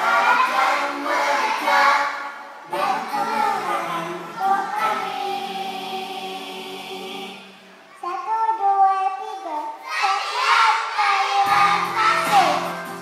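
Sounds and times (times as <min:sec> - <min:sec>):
young children singing: 0:00.0 - 0:13.0.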